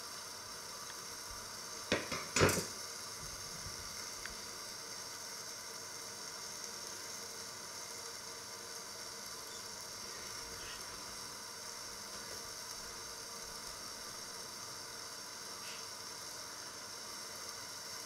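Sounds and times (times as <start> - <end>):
food sizzling in covered pot: 0.0 - 18.0.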